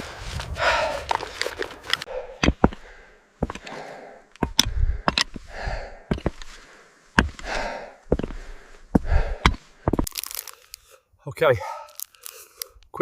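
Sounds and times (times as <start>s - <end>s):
footsteps on path: 0.0s - 10.8s
person breathing hard: 0.0s - 12.8s.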